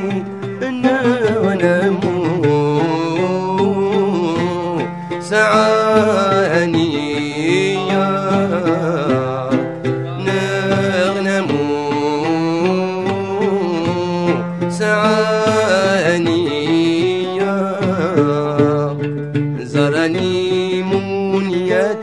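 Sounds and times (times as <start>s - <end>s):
accompanying ensemble: 0.0s - 22.0s
plucked mandole melody: 0.0s - 22.0s.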